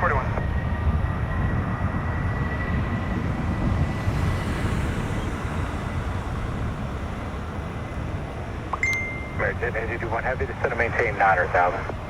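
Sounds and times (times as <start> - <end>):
jet engine low rumble: 0.0 - 12.0
jet engine whine: 0.0 - 12.0.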